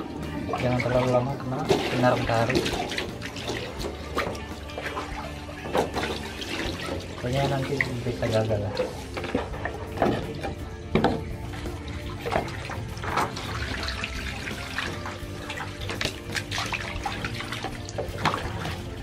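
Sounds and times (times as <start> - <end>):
water splashing onto screen: 0.5 - 19.0.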